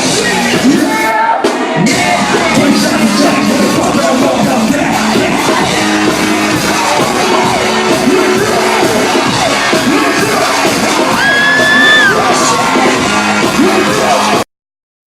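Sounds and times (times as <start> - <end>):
live rap music over pa: 0.0 - 14.4
yelled vocals: 0.0 - 14.4.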